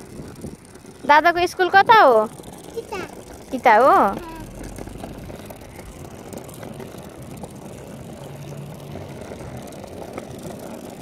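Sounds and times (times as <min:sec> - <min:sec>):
plastic wheels rolling on asphalt: 0:00.0 - 0:11.0.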